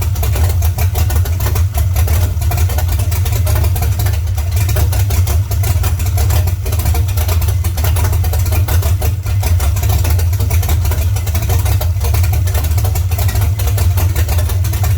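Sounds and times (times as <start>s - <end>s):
car engine idling unevenly: 0.0s - 14.9s.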